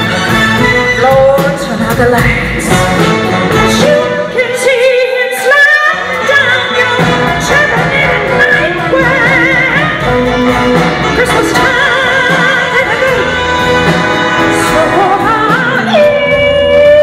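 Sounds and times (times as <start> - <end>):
live band playing: 0.0 - 17.0
person singing with vibrato: 0.6 - 17.0.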